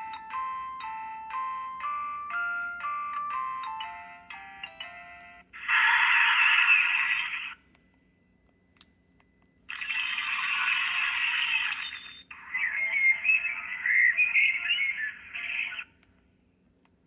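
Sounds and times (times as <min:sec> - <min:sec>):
phone ringtone through tinny speaker: 0:00.0 - 0:07.6, 0:09.7 - 0:15.9.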